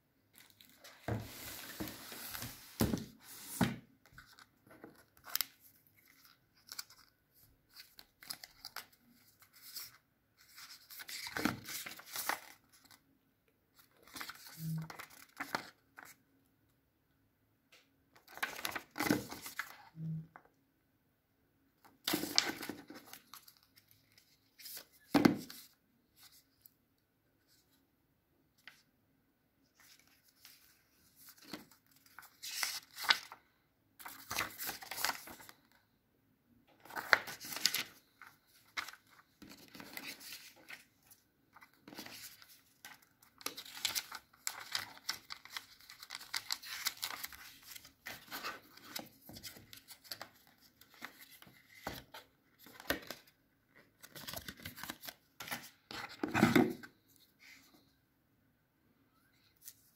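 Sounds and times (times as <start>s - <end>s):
paper rustling and pages flipping: 0.3s - 13.0s, 13.8s - 16.2s, 18.1s - 20.1s, 21.8s - 26.7s, 29.7s - 35.8s, 36.8s - 57.9s, 59.5s - 59.9s.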